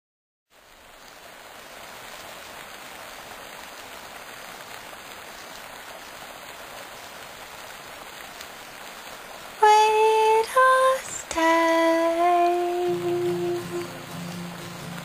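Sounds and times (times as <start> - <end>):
steady rain falling: 0.5 - 15.0.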